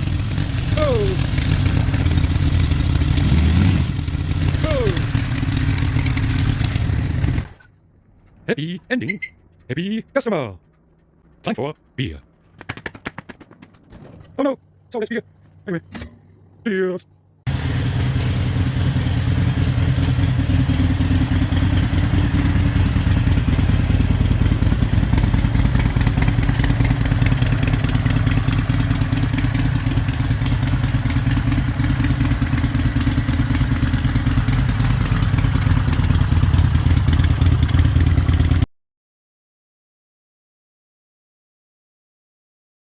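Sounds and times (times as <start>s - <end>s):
motorcycle engine rumbling: 0.0s - 38.7s.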